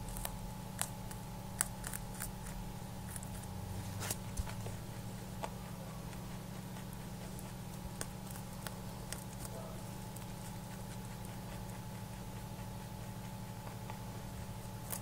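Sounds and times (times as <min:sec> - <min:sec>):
rabbit crunching a treat: 0:00.0 - 0:15.0
steady low hum: 0:00.0 - 0:15.0.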